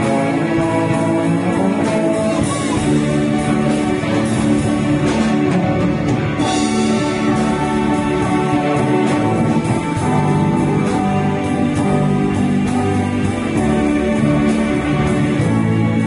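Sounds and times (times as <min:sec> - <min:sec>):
band playing gospel hymn: 0:00.0 - 0:16.0.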